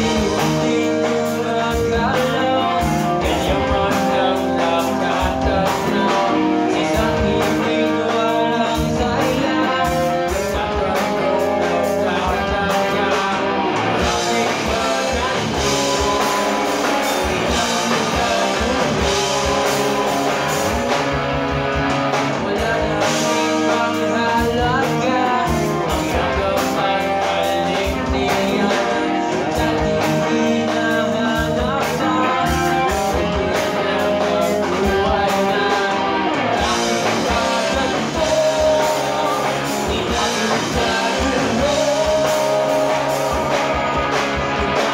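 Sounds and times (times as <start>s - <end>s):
man singing into microphone: 0.0s - 20.9s, 22.3s - 44.2s
drum kit: 0.0s - 44.9s
electric guitars: 0.0s - 44.9s.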